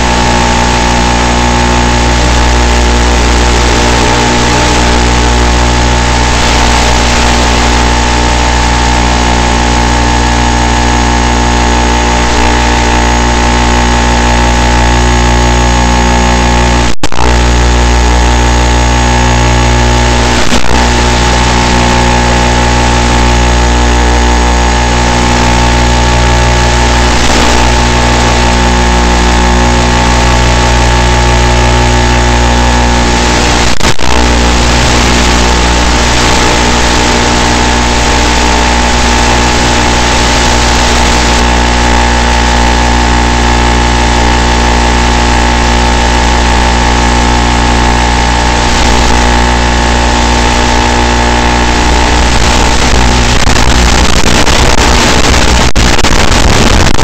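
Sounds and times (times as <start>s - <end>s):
electric motor and propeller whine: 0.0s - 57.0s.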